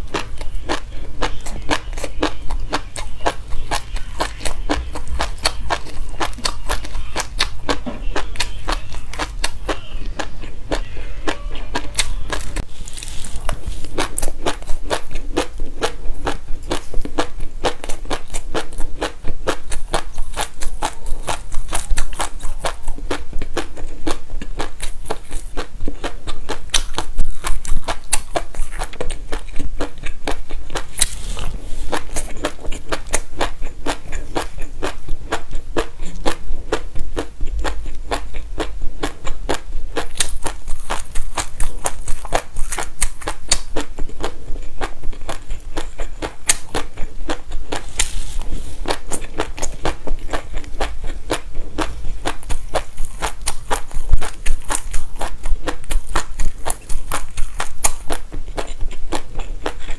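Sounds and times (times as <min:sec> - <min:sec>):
chewing crunchy seeds: 0:00.0 - 0:59.9.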